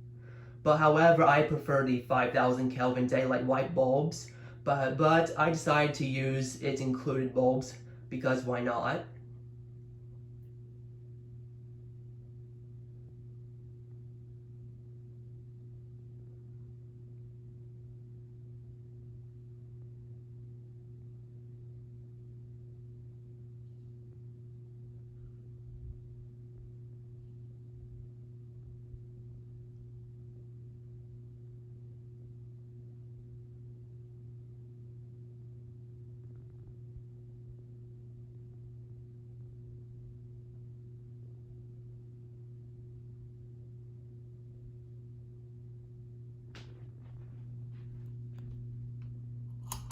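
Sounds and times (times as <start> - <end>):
ceiling fan motor hum: 0.0 - 49.9
faint low rumble: 0.0 - 49.9.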